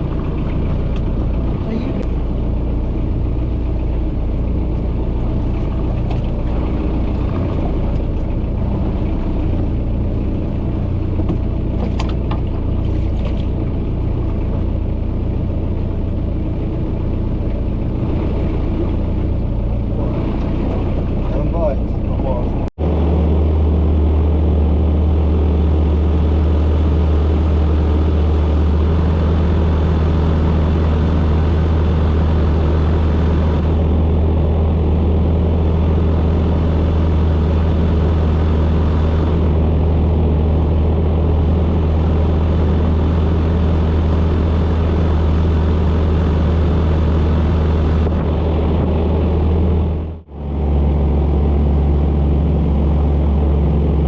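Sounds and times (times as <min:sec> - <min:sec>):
boat engine drone: 0:00.0 - 0:54.0.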